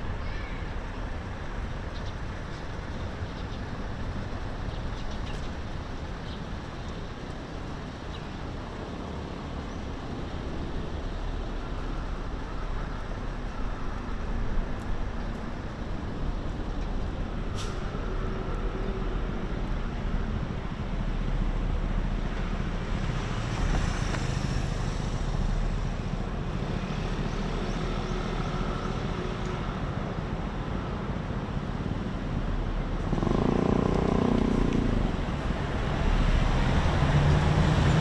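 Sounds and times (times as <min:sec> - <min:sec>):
city traffic rumble: 0:00.0 - 0:38.0.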